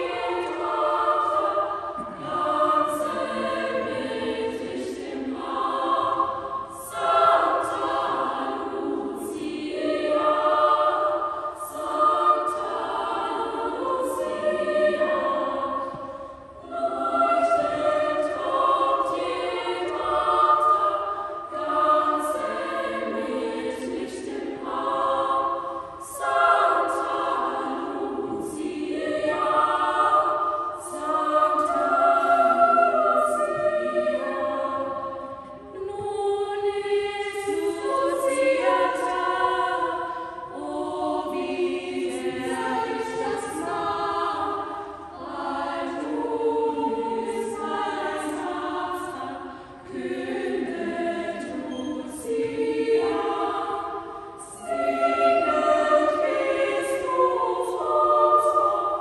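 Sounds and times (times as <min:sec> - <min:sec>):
girls' choir singing: 0:00.0 - 0:59.0.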